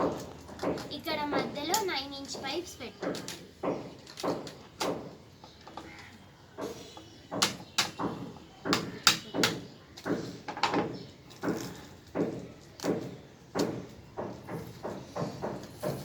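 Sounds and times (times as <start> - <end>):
plastic pipes clacking together: 0.0 - 16.0.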